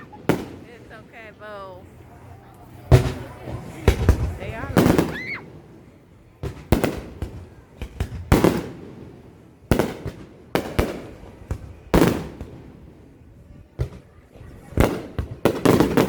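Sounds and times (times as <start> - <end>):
fireworks bangs with crackling: 0.0 - 16.0.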